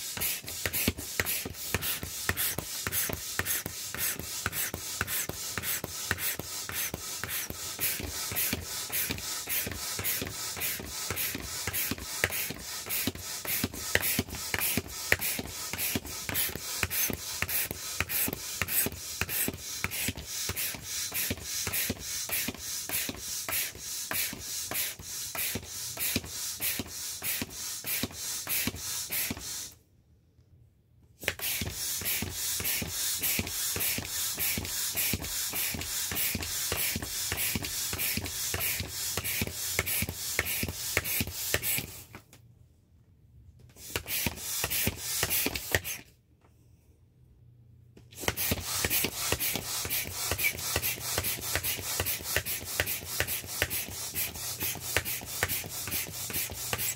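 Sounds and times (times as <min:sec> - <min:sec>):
air pump puffing: 0:00.0 - 0:29.8, 0:31.2 - 0:42.2, 0:43.7 - 0:46.1, 0:48.1 - 0:56.9.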